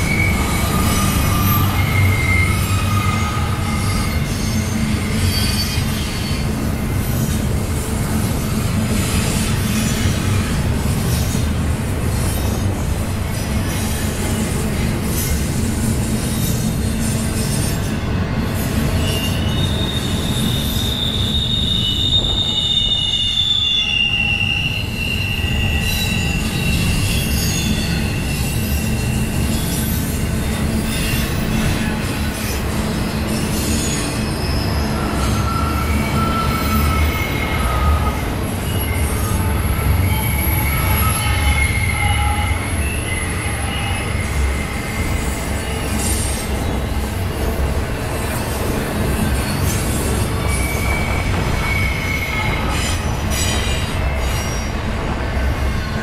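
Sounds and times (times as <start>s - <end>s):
high wheel squeals: 0.0s - 11.4s, 13.3s - 47.6s, 48.2s - 56.0s
freight train wheels rumbling: 0.0s - 56.0s.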